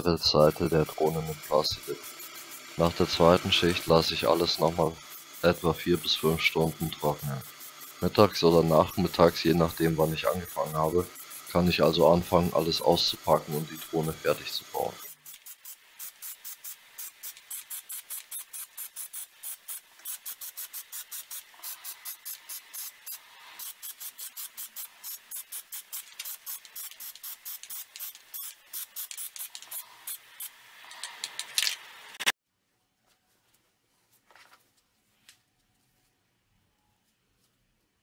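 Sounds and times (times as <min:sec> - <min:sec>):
aerosol can spraying: 0:00.0 - 0:32.3.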